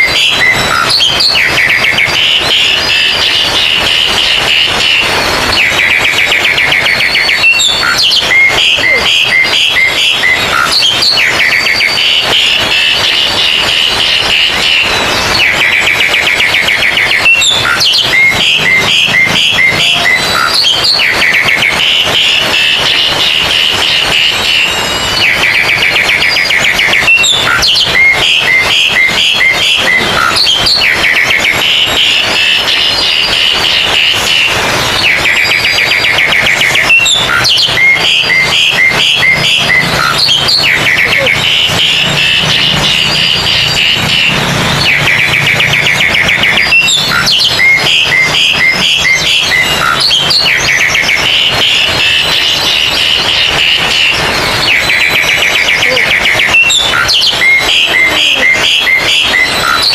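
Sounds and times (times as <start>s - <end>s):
birds singing trills and whistles: 0.0s - 59.9s.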